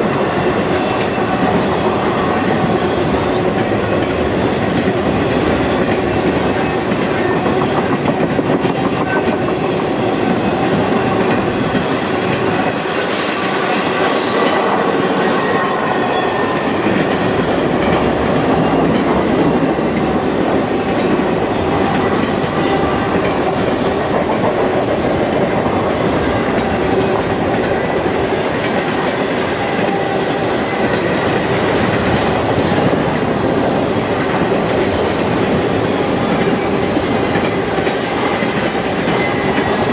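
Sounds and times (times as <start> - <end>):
freight train cars rolling: 0.0 - 39.9
train wheels clicking over rail joints: 0.0 - 39.9.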